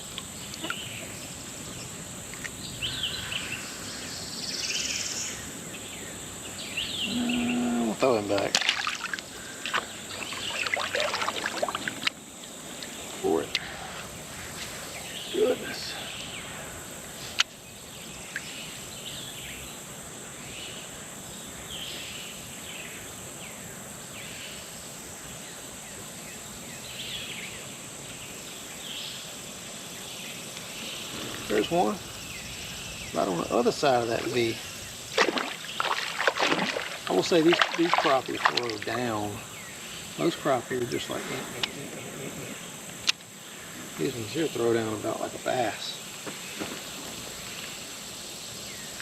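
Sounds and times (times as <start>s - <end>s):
high insect drone: 0.0s - 49.0s.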